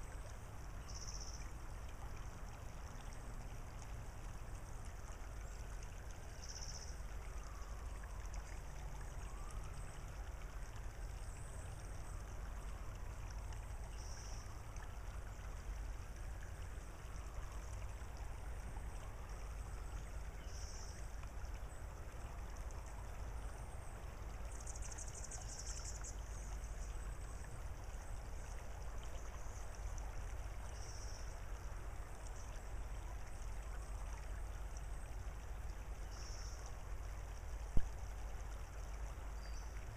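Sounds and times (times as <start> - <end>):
water trickling over gravel: 0.0 - 39.9.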